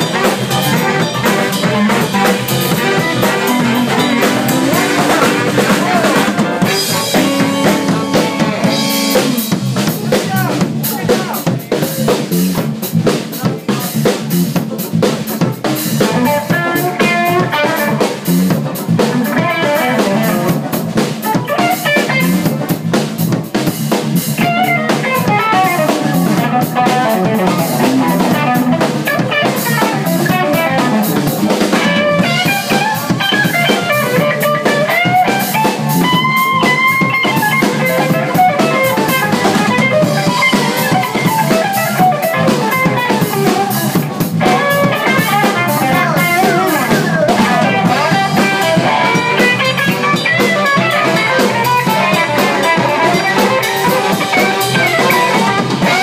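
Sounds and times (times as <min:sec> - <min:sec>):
electric guitar lead line: 0:00.0 - 0:13.2, 0:14.0 - 0:56.0
bass groove: 0:00.0 - 0:56.0
drum kit: 0:00.0 - 0:56.0.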